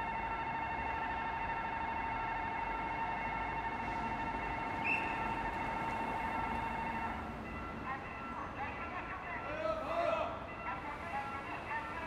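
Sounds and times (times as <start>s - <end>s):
crossing alarm tone: 0.0s - 12.0s.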